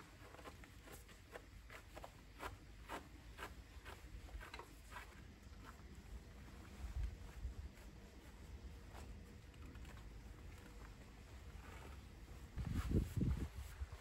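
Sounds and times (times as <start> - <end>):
brush strokes on pony's coat: 0.0 - 14.0.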